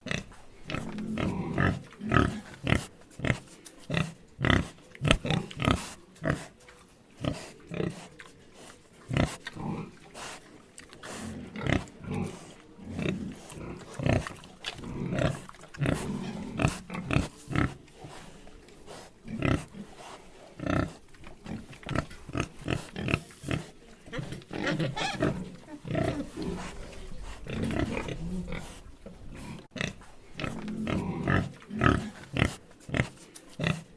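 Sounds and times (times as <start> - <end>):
pigs grunting: 0.0 - 6.6, 7.2 - 33.9.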